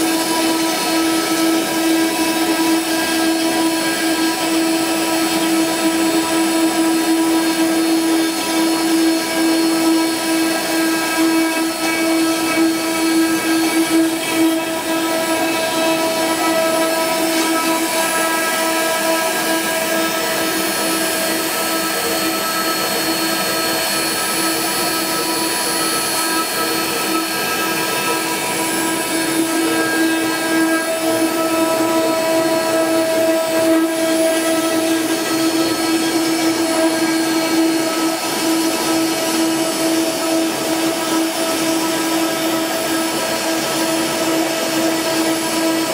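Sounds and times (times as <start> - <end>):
router spindle whining: 0.0 - 45.9.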